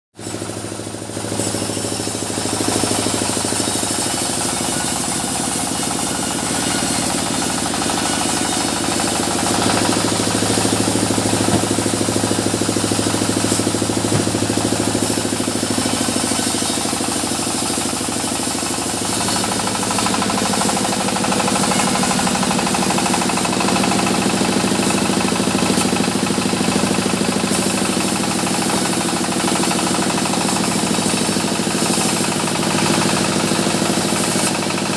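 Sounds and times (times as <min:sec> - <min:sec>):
machinery rattling: 0:00.2 - 0:34.9
sawmill machinery drone: 0:00.2 - 0:34.9.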